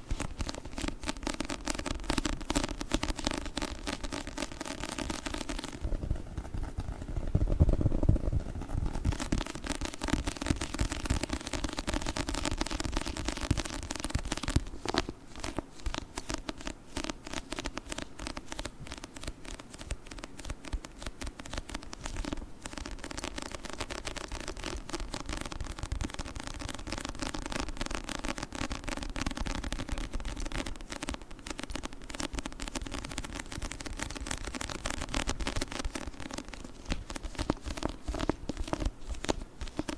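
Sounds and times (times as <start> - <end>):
fingers on sticky book surface: 0.0 - 39.9.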